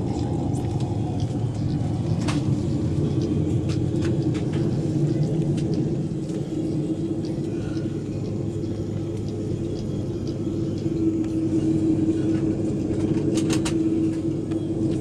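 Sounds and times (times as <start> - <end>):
low airplane cabin rumble: 0.0 - 15.0.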